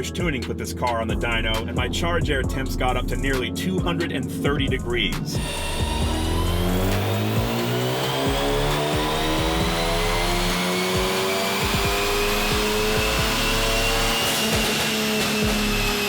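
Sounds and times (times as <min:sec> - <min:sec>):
car engine under full load: 0:00.0 - 0:16.0.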